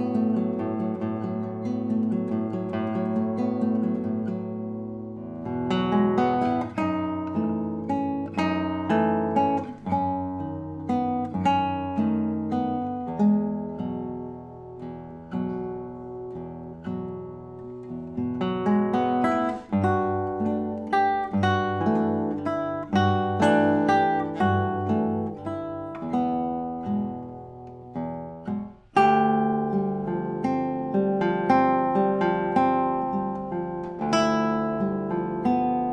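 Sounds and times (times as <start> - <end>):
classical guitar fingerstyle: 0.0 - 35.9.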